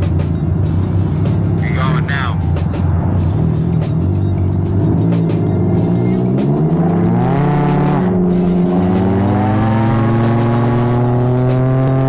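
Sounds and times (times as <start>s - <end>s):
engine accelerating: 0.0s - 12.0s.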